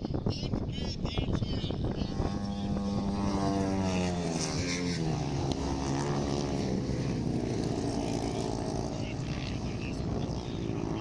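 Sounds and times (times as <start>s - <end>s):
motorcycle engine passing: 2.0s - 11.0s.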